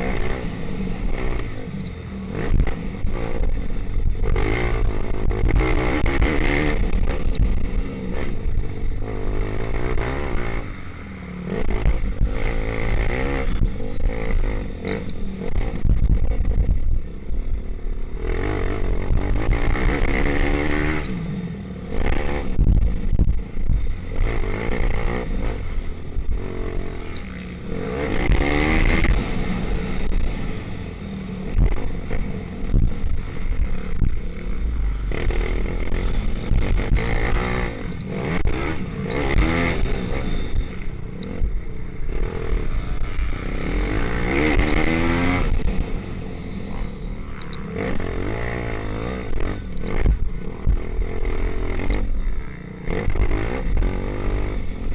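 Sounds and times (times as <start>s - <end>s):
pit bike engines revving: 0.0s - 54.9s.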